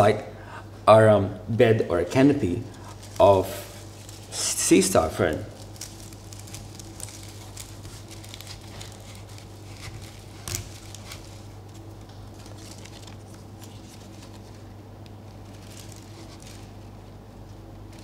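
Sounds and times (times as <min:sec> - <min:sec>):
steady low hum: 0:00.0 - 0:18.0
rustling of grass stems: 0:02.4 - 0:18.0.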